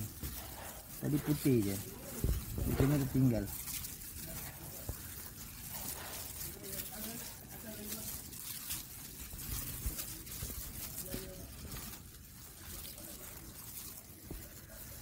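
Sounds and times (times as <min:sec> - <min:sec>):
gloved hands rustling in flour: 0:00.0 - 0:15.0.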